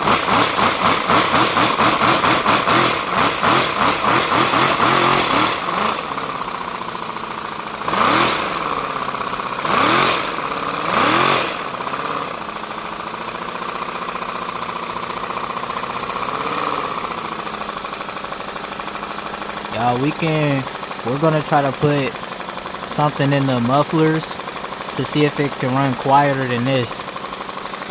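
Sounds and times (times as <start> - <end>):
air-powered engine chuffing: 0.0 - 27.9.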